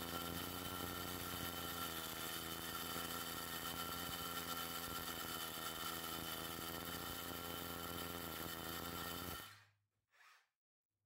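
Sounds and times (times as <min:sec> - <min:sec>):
power drill boring into concrete: 0:00.0 - 0:09.7.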